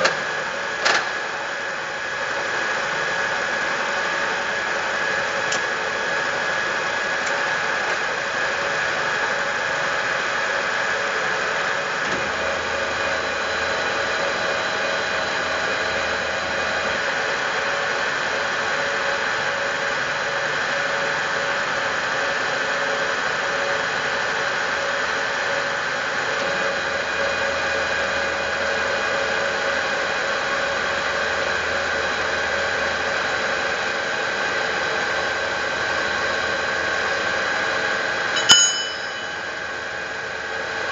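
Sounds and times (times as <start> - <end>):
milling machine whine: 0.0 - 40.9.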